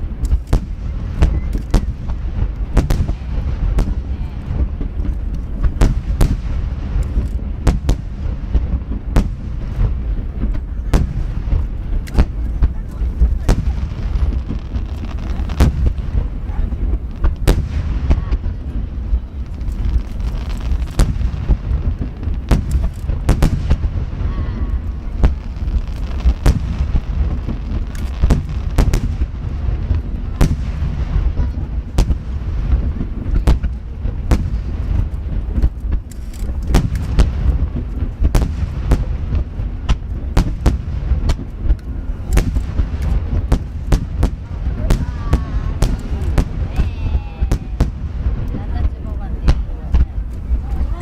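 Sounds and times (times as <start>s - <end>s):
firework shells bursting: 0.0s - 51.0s
low rumble of booms: 0.0s - 51.0s.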